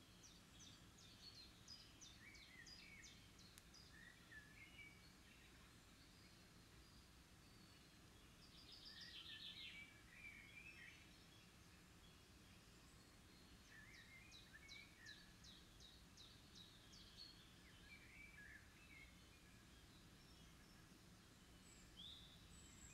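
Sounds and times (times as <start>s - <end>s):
distant songbirds chirping: 0.0s - 22.9s.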